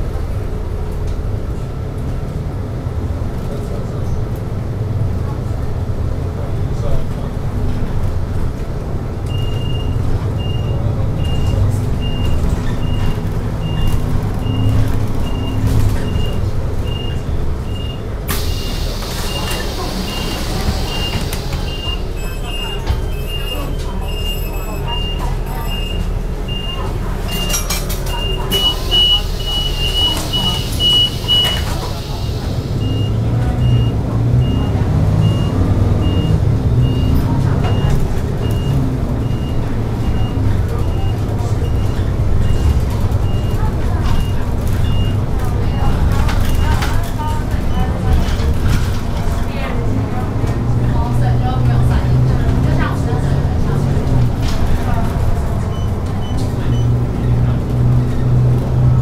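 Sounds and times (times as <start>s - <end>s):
bus engine low drone: 0.0s - 59.0s.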